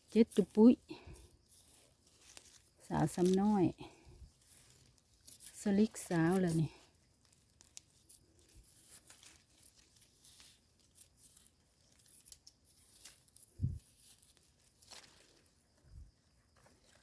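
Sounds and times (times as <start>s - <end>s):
rustling soil and leaves: 0.0s - 17.0s.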